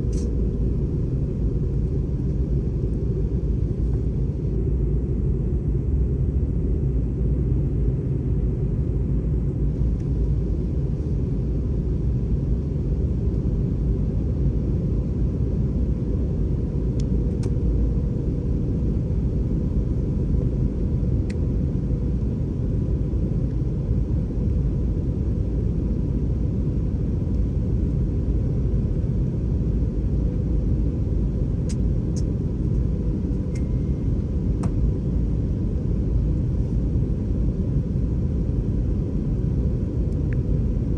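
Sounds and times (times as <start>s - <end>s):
aircraft cabin rumble: 0.0s - 40.9s
faint steady hum: 0.0s - 40.9s.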